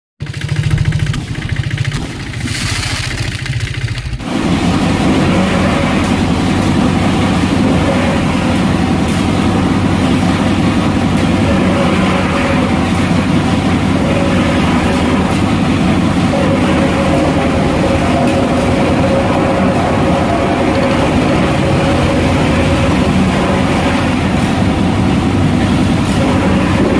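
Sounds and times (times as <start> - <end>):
boat engine running: 0.2 - 26.9.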